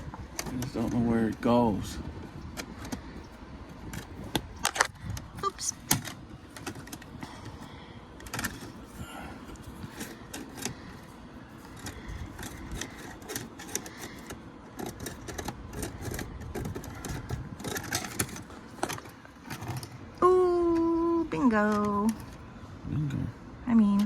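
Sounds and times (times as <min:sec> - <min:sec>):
metal cable clicking and rattling: 0:00.0 - 0:20.2.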